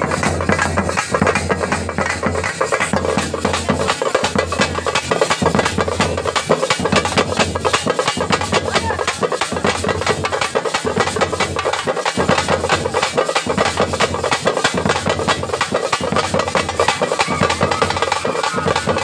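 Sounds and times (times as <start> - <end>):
drums playing fast rhythm: 0.0 - 19.0.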